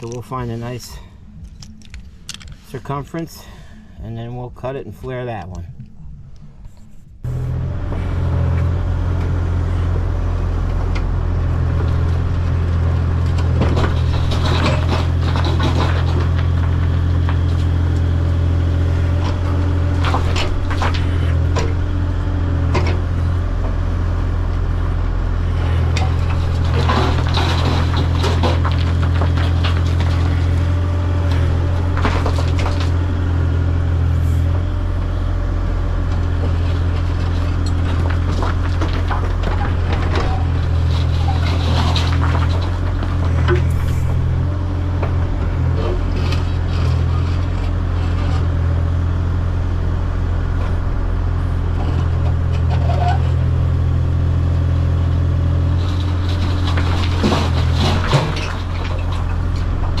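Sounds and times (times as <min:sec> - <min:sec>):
engine droning: 0:00.0 - 1:00.0.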